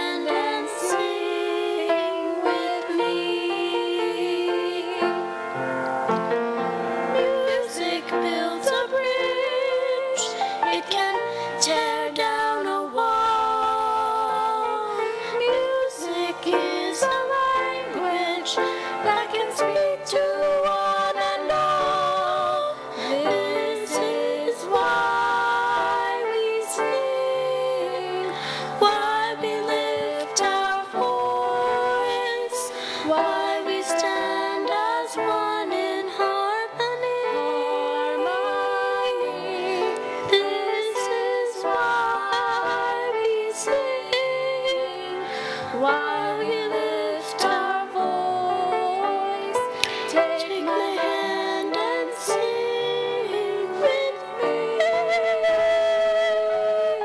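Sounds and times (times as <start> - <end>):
woman and girl singing duet: 0.0 - 5.3, 7.2 - 57.0
musical accompaniment: 0.0 - 57.0.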